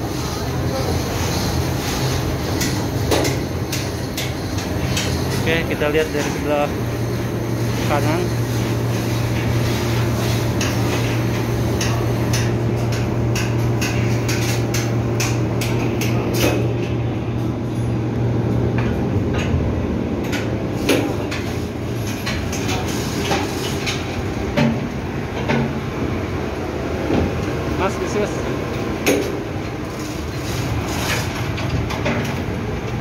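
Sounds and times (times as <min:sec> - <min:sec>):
engine room machinery drone: 0:00.0 - 0:33.0.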